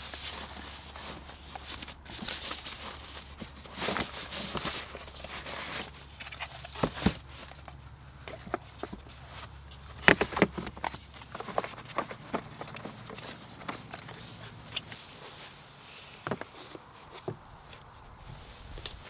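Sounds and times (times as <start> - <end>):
plastic boxes being handled: 0.0 - 19.0.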